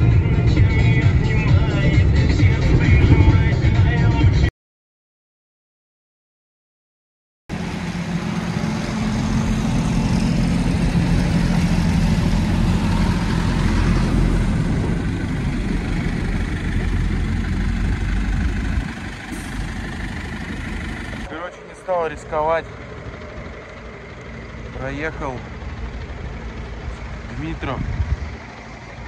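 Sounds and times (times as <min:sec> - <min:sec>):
truck engine running: 0:00.0 - 0:04.5, 0:07.5 - 0:29.0.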